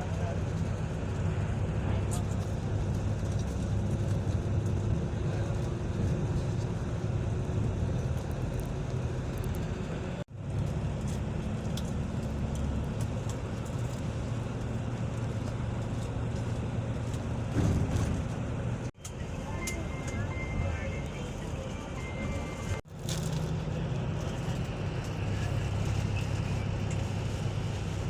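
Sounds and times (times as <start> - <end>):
vehicle engine hum and road noise: 0.0 - 28.0.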